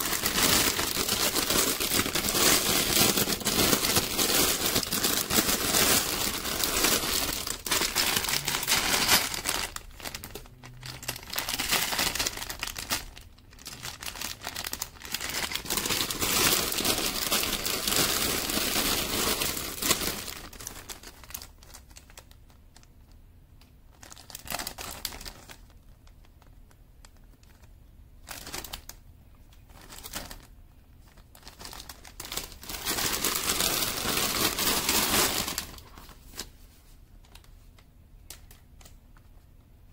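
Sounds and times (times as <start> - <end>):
plastic bags crinkling: 0.0 - 23.2, 23.9 - 29.0, 29.6 - 36.5.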